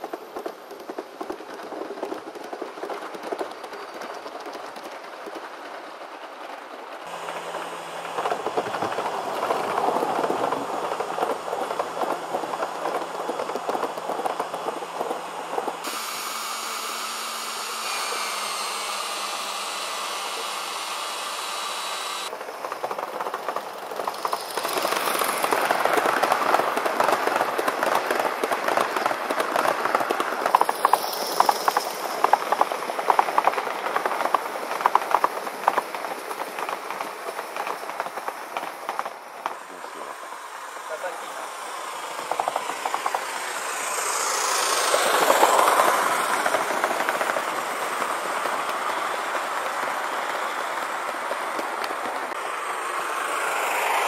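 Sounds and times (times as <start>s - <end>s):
model train wheels rumbling and rattling: 0.0s - 54.0s
wheels clicking over rail joints: 0.0s - 54.0s
steam locomotive hissing: 4.0s - 54.0s.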